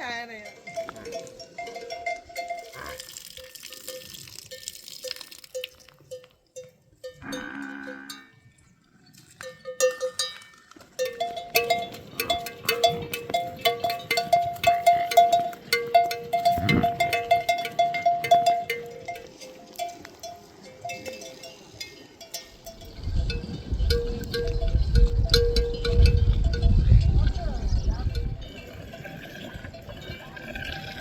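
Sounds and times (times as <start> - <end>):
livestock bells clanking: 0.0 - 31.0.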